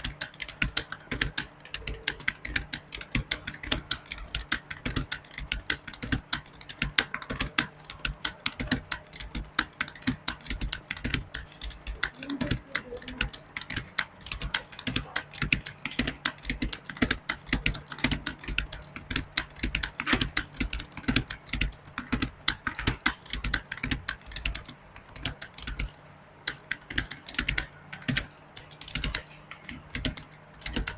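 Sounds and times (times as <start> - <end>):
fast typing on keyboard: 0.0 - 30.9.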